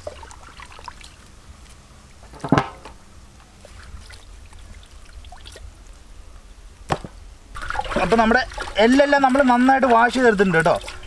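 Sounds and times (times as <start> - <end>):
water dripping and splashing: 0.0 - 2.4, 3.4 - 6.1, 6.9 - 11.0.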